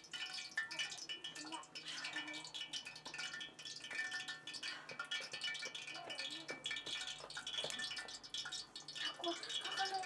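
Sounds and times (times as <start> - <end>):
metal bowls and pot lid clinking: 0.0 - 10.0.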